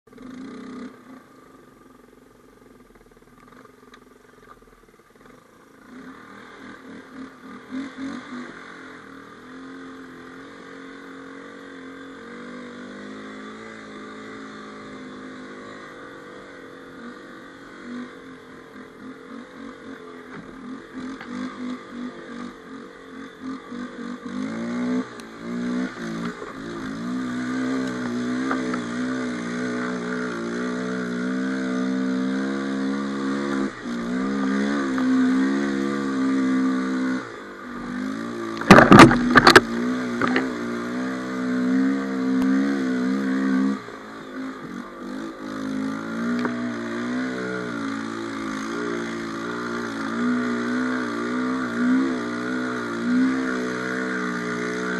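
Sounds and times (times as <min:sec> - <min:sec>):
quad engine revving: 0:00.1 - 0:01.5, 0:05.2 - 0:54.9.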